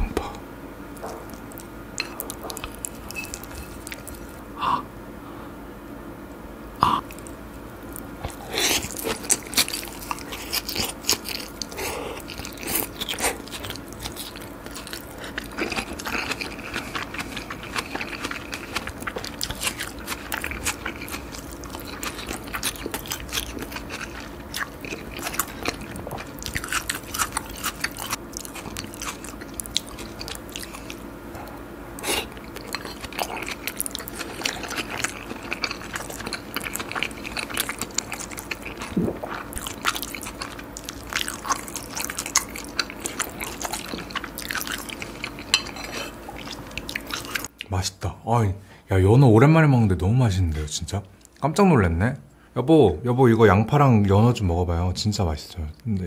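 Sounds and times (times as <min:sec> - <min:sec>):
crunchy chewing: 0:00.0 - 0:04.4, 0:06.8 - 0:47.7.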